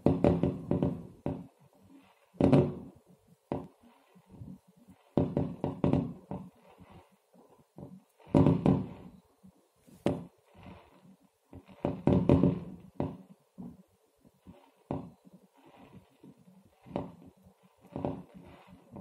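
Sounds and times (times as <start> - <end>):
fireworks thudding through glass: 0.0 - 9.3, 9.9 - 19.0.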